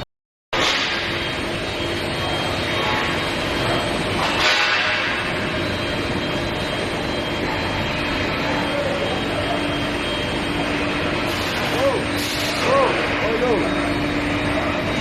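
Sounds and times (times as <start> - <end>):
constant machine tones: 0.6 - 15.0
industrial rumble and hiss: 0.6 - 15.0.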